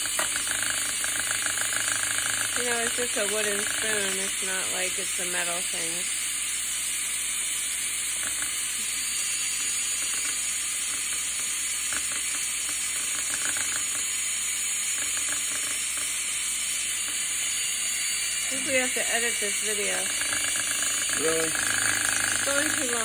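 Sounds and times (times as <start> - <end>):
cordless drill whining: 0.0 - 6.0, 7.8 - 23.0.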